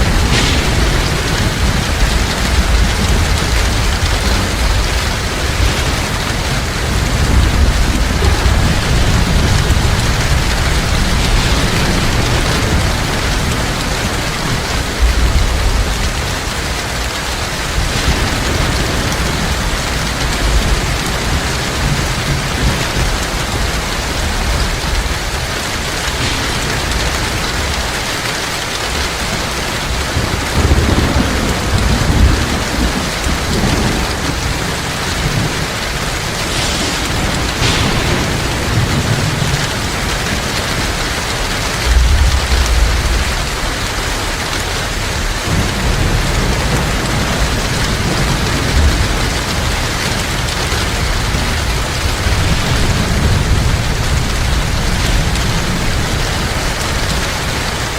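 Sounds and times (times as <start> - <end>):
heavy rain falling: 0.0 - 57.9
thunder rumbling: 0.0 - 57.9.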